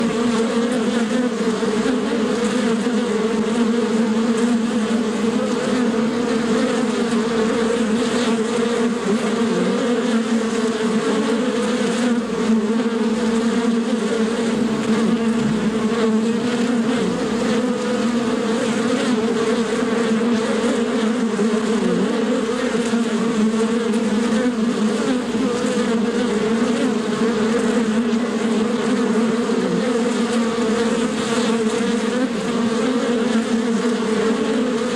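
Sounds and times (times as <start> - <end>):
bee wings buzzing: 0.0 - 34.9.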